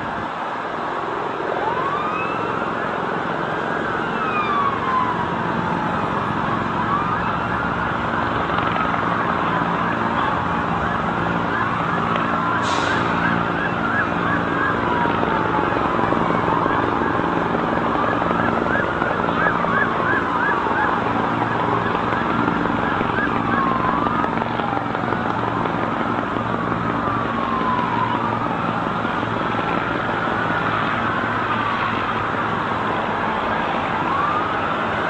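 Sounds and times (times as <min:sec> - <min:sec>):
emergency sirens wailing: 0:00.0 - 0:35.0
siren yelps: 0:01.4 - 0:32.2, 0:33.3 - 0:35.0.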